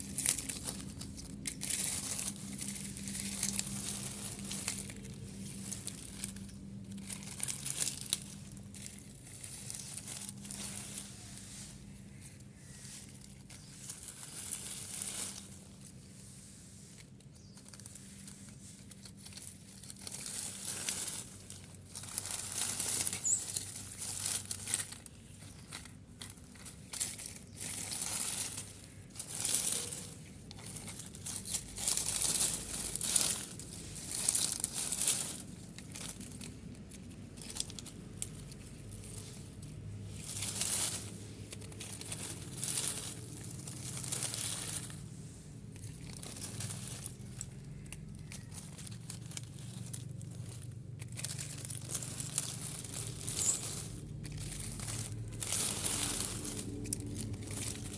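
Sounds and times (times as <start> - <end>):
dry material rustling: 0.0 - 57.9.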